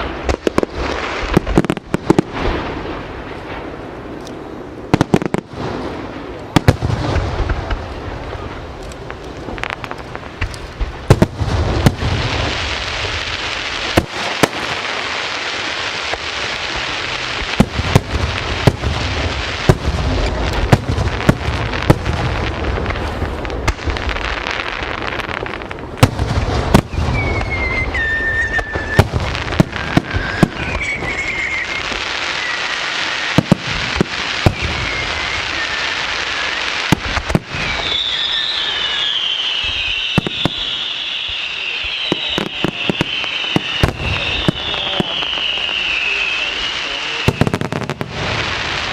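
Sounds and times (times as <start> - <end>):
fireworks whistling: 0.0 - 3.8, 4.8 - 48.9
fireworks bangs: 0.0 - 48.9
fireworks crackling hiss: 0.0 - 48.9.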